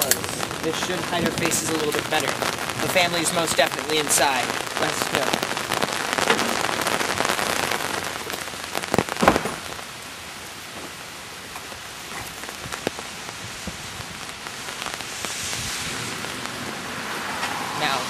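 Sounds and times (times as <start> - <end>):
sharp raindrop taps: 0.0 - 9.8, 10.4 - 17.6
rain on an umbrella: 0.0 - 18.0.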